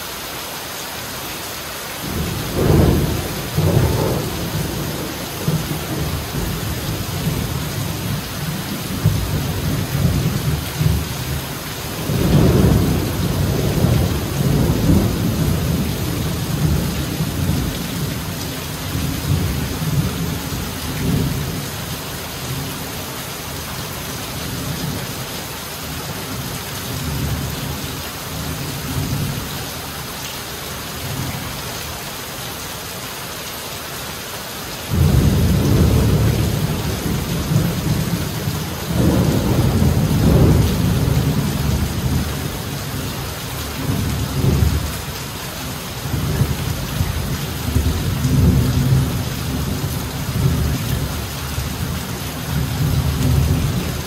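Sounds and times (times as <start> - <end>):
heavy rain on foliage: 0.0 - 54.0.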